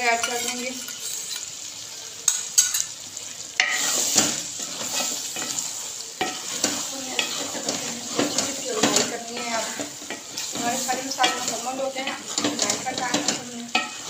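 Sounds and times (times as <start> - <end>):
food sizzling: 0.0 - 14.0
spatula scraping metal pot: 0.2 - 1.5, 3.6 - 14.0.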